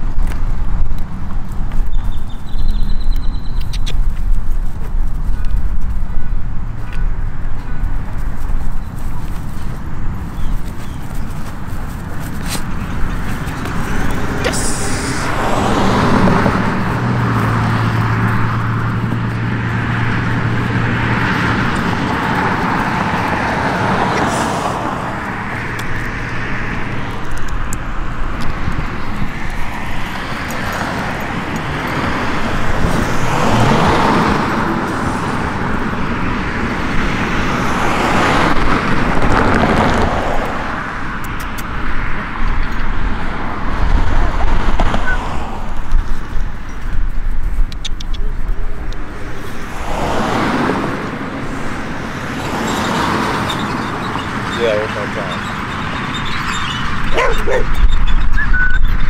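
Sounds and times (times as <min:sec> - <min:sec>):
cars passing: 0:00.0 - 0:59.0
low engine hum: 0:00.0 - 0:59.0.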